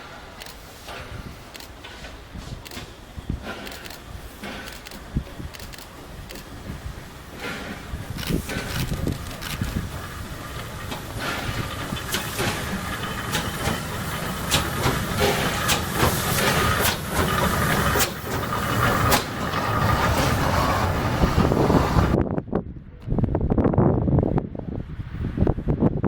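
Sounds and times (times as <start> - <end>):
train rumbling past: 0.0 - 22.8
wheels clicking over rail joints: 0.1 - 22.2.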